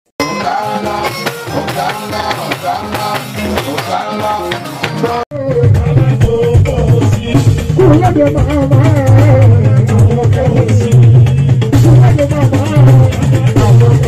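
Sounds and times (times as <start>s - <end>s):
drums and percussion: 0.2s - 14.0s
man singing into microphone: 0.2s - 14.0s
music with heavy bass: 0.2s - 14.0s.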